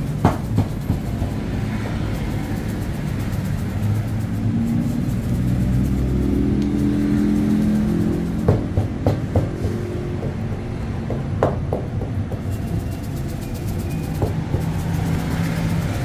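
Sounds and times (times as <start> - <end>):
motor running with low rumble: 0.0 - 10.5, 12.4 - 16.0.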